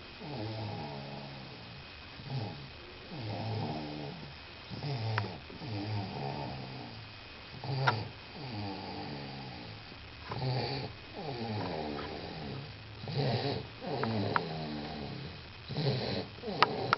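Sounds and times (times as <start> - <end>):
buzzing snoring: 0.0 - 16.9.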